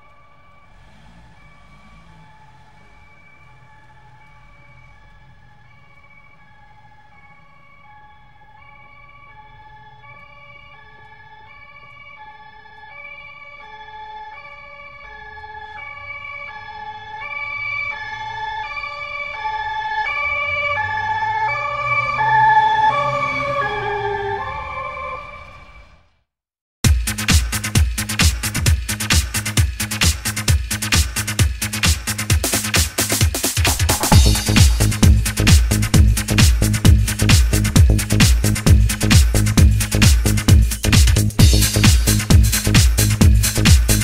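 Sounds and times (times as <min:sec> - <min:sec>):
two-tone siren: 0:00.0 - 0:26.1, 0:30.8 - 0:44.0
road rumble: 0:00.0 - 0:26.2, 0:27.6 - 0:44.0.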